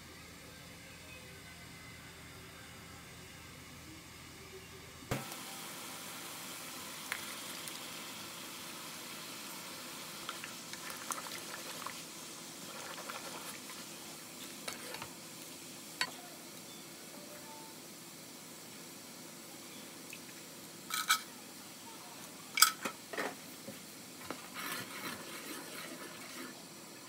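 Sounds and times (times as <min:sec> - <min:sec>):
broth boiling in a pan: 0:00.0 - 0:27.0.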